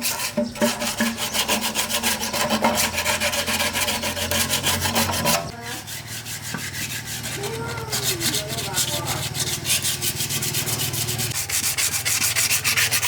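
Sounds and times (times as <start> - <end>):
hand scraping metal part: 0.0 - 13.0.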